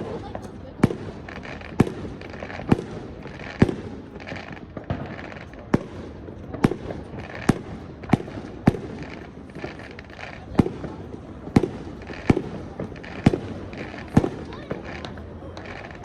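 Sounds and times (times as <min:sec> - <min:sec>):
fireworks exploding: 0:00.0 - 0:16.0
steady background noise: 0:00.0 - 0:16.0.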